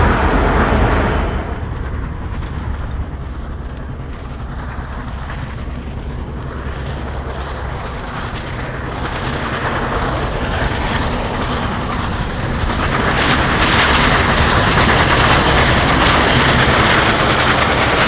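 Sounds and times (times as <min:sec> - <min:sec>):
steam locomotive rumbling: 0:00.0 - 0:18.0.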